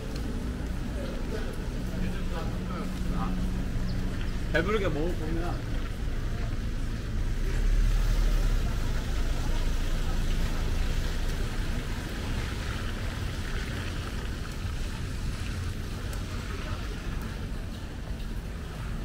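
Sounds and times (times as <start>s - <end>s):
faint voices: 0.0s - 19.0s
traffic rumble: 0.0s - 19.0s.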